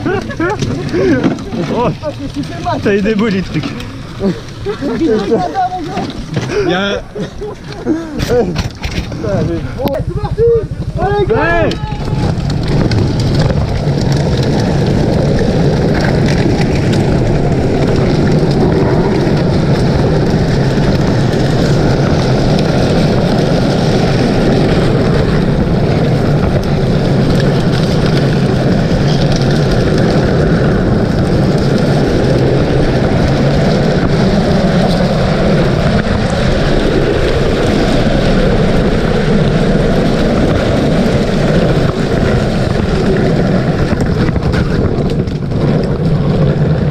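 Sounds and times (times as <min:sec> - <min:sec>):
vehicle rumble: 0:00.0 - 0:46.9.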